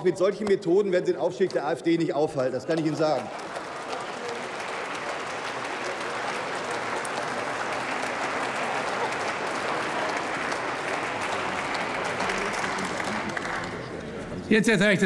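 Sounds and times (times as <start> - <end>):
crowd applauding: 1.2 - 14.4.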